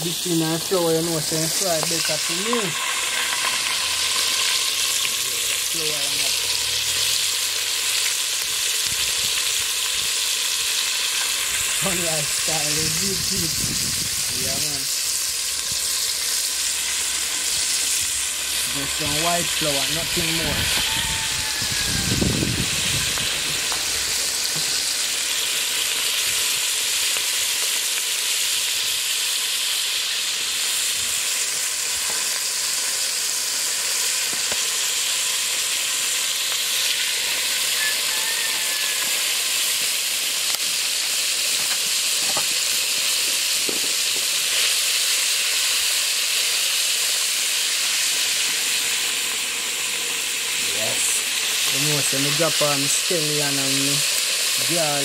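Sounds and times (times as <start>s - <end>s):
chicken frying in hot oil: 0.0s - 55.0s.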